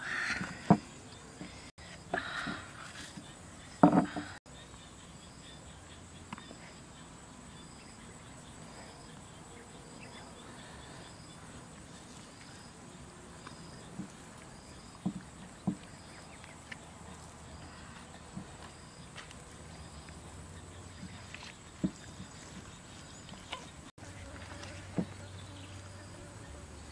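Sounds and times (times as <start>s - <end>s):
insect chirping faintly: 0.0s - 26.9s.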